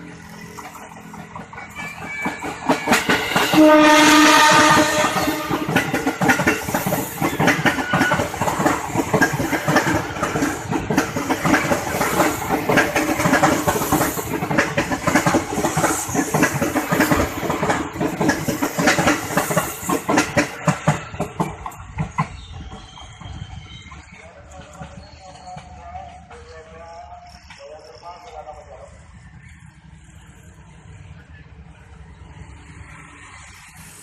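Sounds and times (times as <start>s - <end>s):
train wheels clattering over rails: 0.0s - 31.0s.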